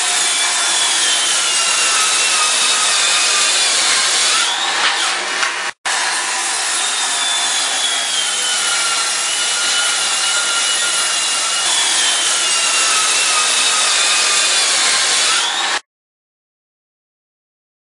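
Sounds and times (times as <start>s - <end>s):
circular saw cutting wood: 0.0s - 15.8s
saw motor whine: 0.0s - 15.8s.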